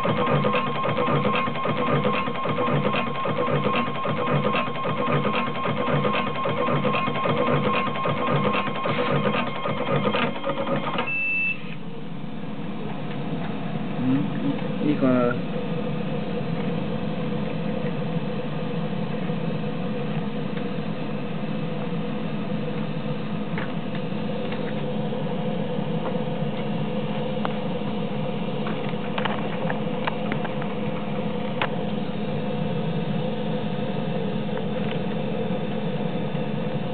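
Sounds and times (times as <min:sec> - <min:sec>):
machine electric hum: 0:00.0 - 0:36.9.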